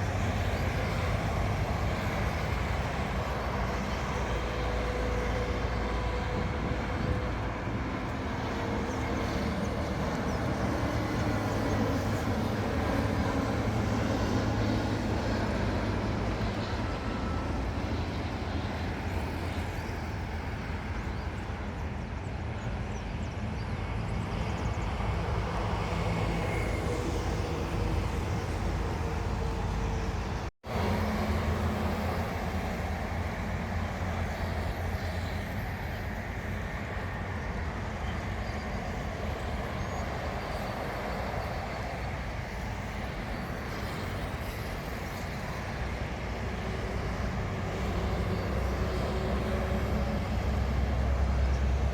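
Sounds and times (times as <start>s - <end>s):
distant aircraft rumble: 0.0s - 51.9s
road traffic: 0.0s - 51.9s.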